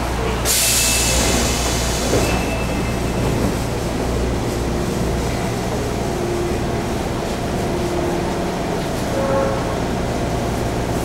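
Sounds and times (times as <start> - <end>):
train ride rumble: 0.0 - 11.0.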